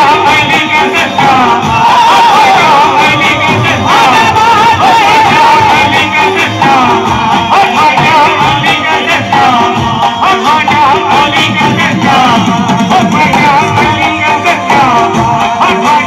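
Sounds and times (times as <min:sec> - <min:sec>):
devotional singing over loudspeakers: 0:00.0 - 0:16.0
drum rhythm: 0:00.0 - 0:16.0.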